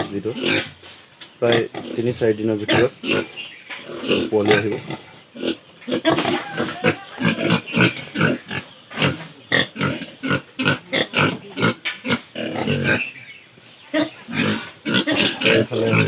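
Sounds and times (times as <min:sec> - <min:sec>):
pigs grunting: 0:00.0 - 0:00.8, 0:01.4 - 0:13.3, 0:13.9 - 0:16.0.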